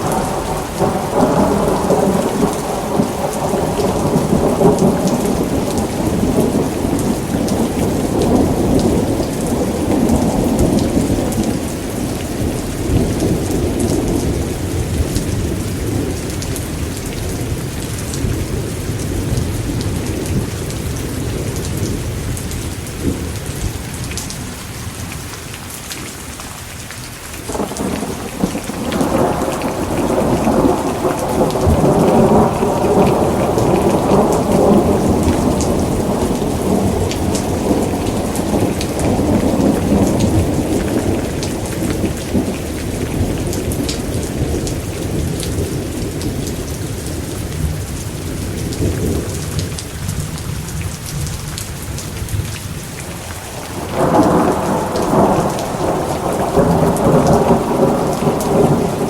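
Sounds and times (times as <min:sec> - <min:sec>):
thunder rumbling: 0:00.0 - 0:24.0, 0:27.5 - 0:59.0
steady rain: 0:00.0 - 0:59.0.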